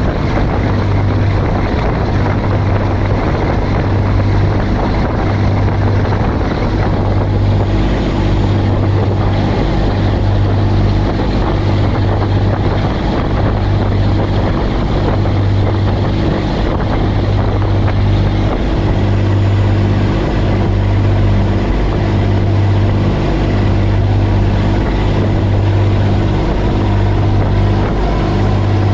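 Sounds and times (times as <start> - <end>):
ferry engine drone: 0.0 - 28.9
rush of wind and water: 0.0 - 28.9.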